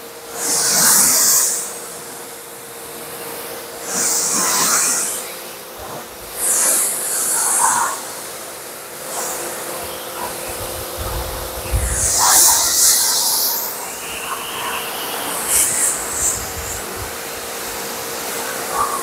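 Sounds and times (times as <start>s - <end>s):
faint steady hum: 0.1s - 19.0s
pressure washer jet hissing: 0.1s - 19.0s.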